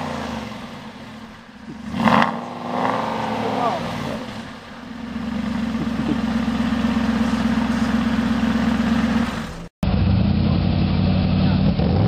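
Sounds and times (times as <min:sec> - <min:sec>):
car engine idling: 0:00.0 - 0:11.7
car engine at steady revs: 0:00.0 - 0:12.0.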